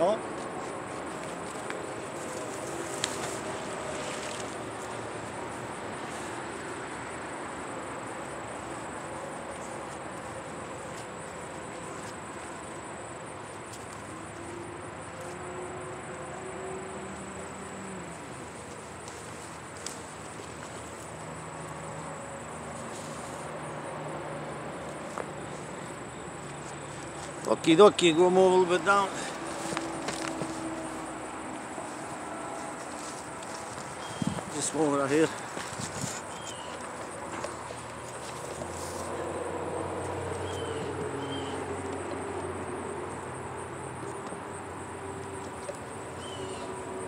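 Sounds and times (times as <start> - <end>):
insects trilling: 0.0 - 47.0
outdoor background hum: 0.0 - 47.0.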